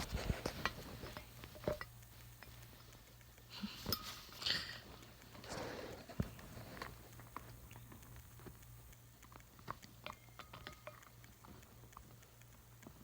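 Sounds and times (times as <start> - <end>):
bird beak chewing and crunching: 0.0 - 13.0.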